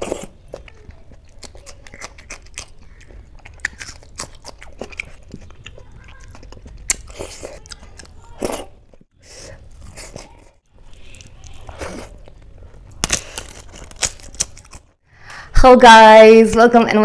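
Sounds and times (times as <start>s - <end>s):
crisp crunching bites: 0.0s - 9.0s, 9.6s - 15.0s
wet chewing: 0.0s - 15.0s.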